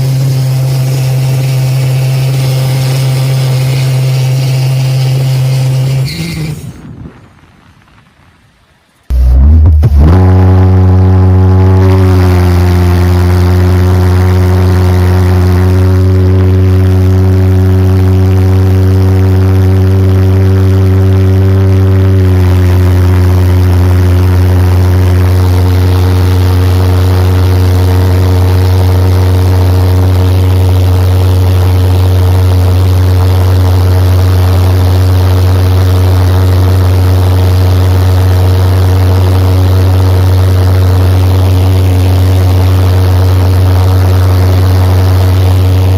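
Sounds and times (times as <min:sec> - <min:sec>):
engine droning: 0:00.0 - 0:45.9.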